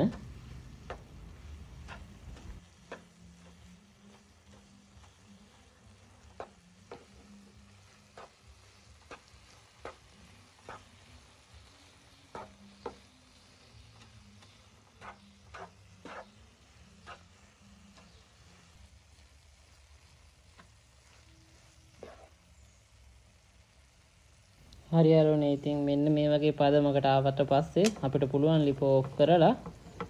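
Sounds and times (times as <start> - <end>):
faint sizzle: 0.0 - 30.0.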